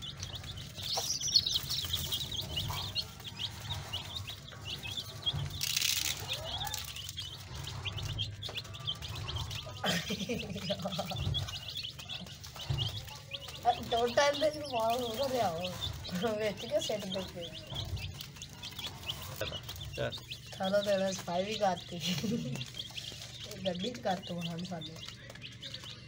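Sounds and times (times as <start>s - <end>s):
baby chicks peeping: 0.0s - 26.0s.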